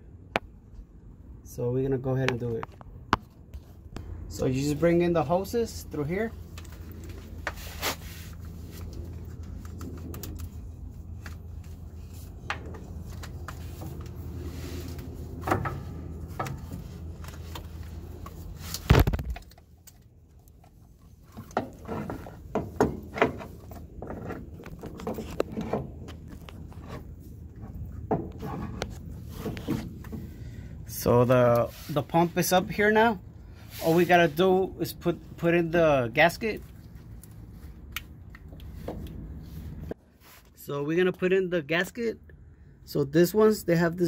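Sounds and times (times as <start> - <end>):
steady low hum: 0.0 - 40.2.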